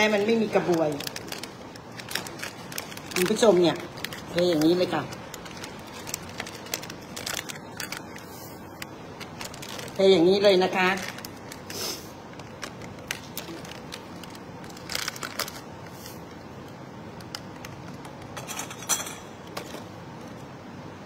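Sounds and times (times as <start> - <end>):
plastic sachets crinkling and tearing: 0.0 - 18.4.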